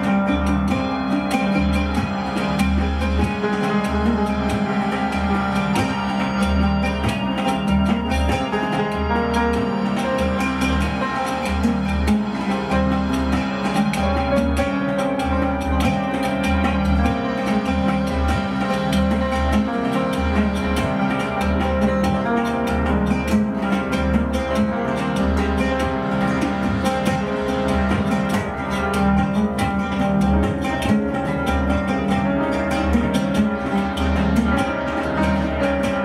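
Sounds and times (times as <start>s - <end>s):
oud plucked: 0.0s - 36.0s.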